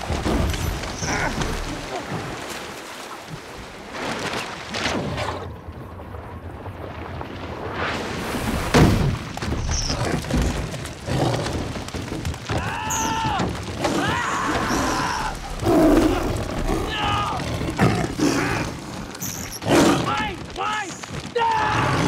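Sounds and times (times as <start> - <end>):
water splashes: 0.0 - 22.0.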